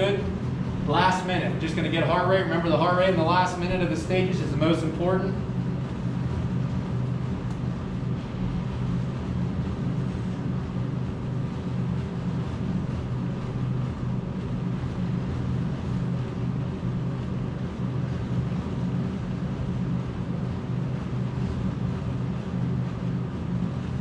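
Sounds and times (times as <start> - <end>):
treadmill motor humming: 0.0 - 24.0.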